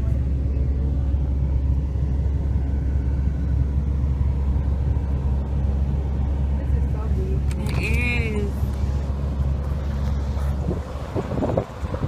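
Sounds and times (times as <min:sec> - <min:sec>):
car driving low rumble: 0:00.0 - 0:12.0.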